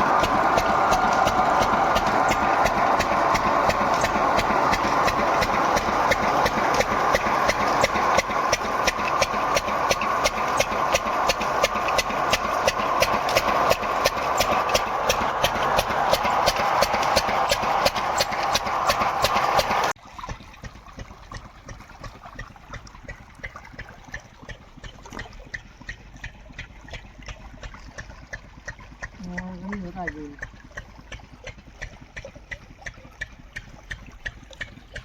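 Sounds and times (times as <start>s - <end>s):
engine knocking beat: 0.0s - 35.0s.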